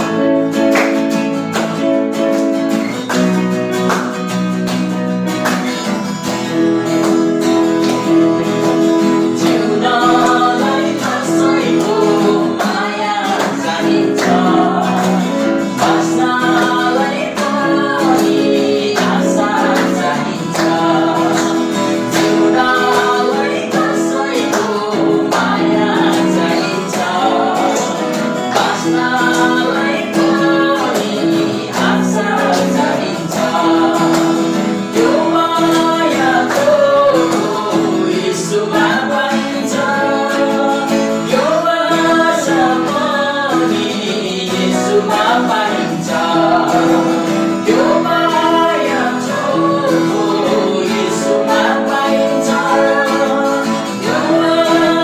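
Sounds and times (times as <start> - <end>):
strummed acoustic guitar: 0.0 - 55.0
woman and man singing: 9.2 - 55.0.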